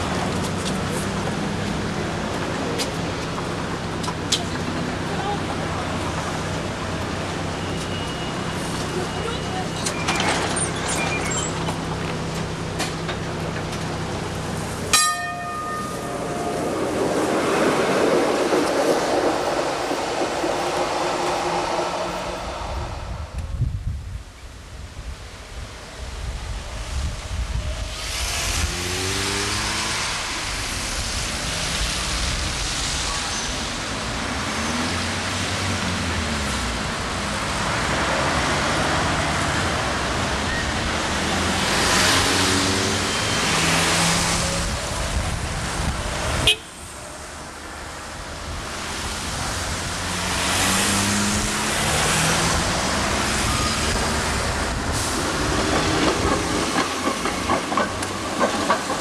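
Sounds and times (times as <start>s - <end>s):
buses and cars driving past: 0.0s - 59.0s.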